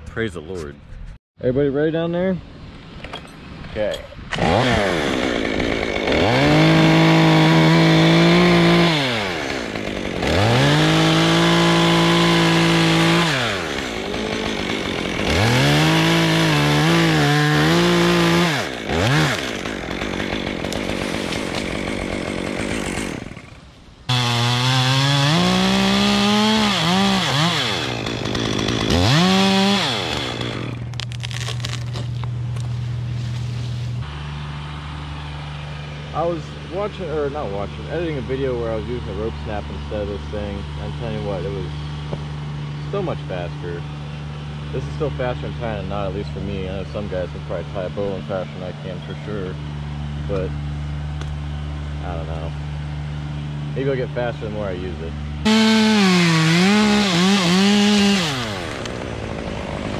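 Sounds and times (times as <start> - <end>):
chainsaw revving and cutting: 4.3 - 32.3, 34.0 - 59.9
chainsaw idling: 4.4 - 32.7, 34.0 - 59.9.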